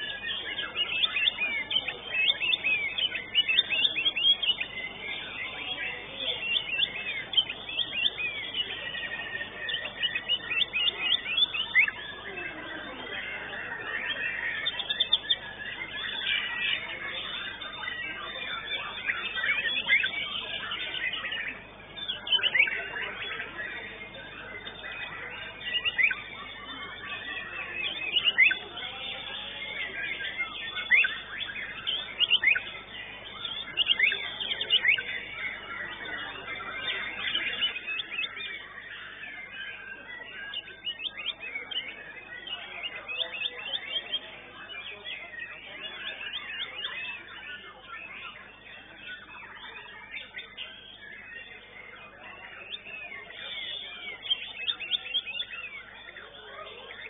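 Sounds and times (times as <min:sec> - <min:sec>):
bird whistling and chirping: 0:00.0 - 0:57.0.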